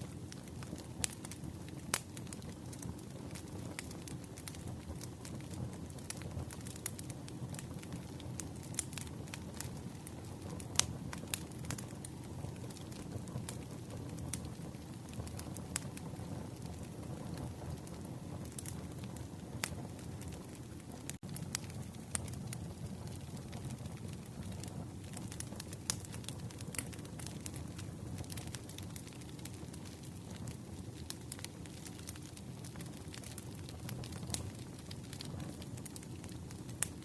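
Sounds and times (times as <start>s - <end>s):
campfire burning: 0.0s - 37.0s
fire popping and crackling: 0.0s - 37.0s.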